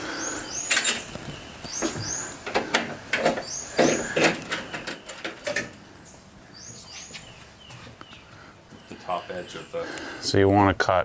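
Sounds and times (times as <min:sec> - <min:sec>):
bird chirping: 0:00.0 - 0:10.4.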